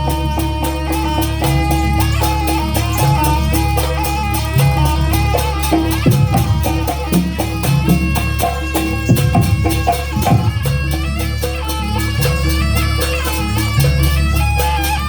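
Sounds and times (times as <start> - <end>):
drums: 0.0 - 15.0
metal percussion clatter: 0.0 - 15.0
reedy wind melody: 0.0 - 15.0.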